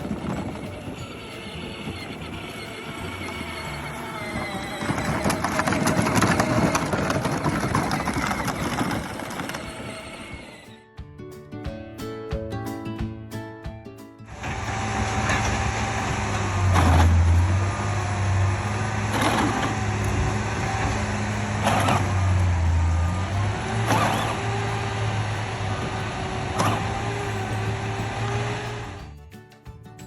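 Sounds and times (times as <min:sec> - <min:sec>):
louder clatter: 0:00.0 - 0:10.7, 0:14.4 - 0:29.1
ride-on toy electric motors running: 0:00.0 - 0:10.8, 0:14.3 - 0:29.1.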